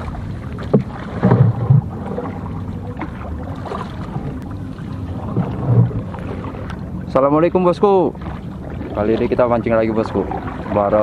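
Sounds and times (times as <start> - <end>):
paddle strokes in water: 0.0 - 11.0.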